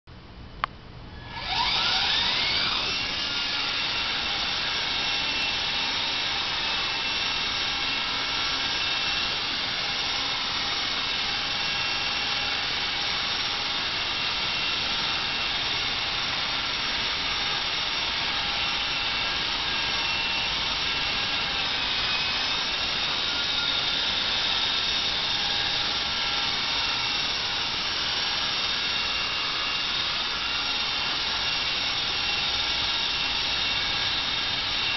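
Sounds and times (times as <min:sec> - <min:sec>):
rc helicopter motor whine: 0:01.1 - 0:34.9.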